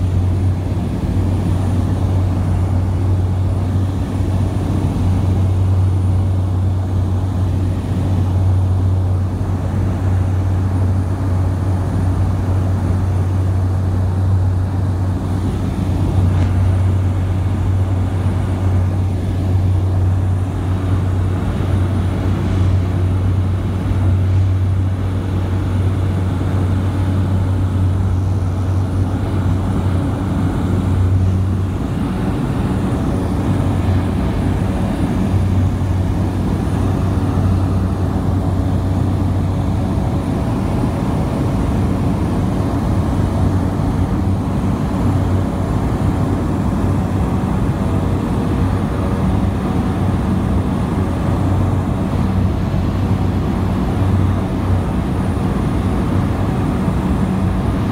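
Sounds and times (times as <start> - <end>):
propeller engine droning: 0.0 - 57.9.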